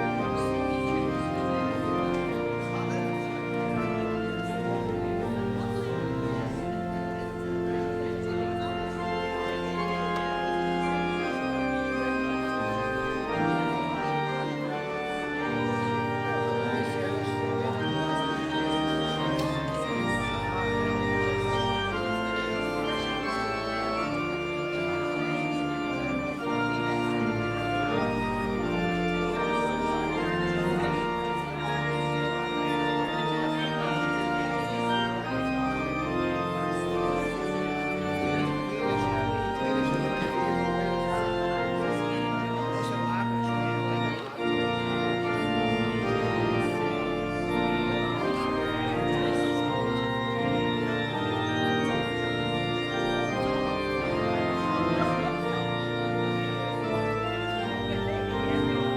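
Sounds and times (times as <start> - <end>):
church organ playing chords: 0.0 - 58.9
low organ pedal bass notes: 0.0 - 58.9.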